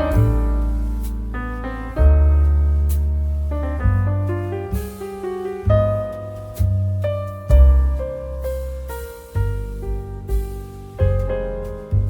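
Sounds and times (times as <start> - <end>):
piano with bass line: 0.0 - 12.0.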